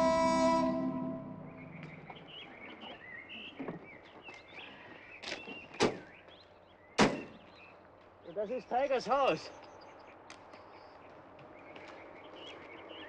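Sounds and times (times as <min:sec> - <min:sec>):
birds twittering: 0:00.0 - 0:13.0.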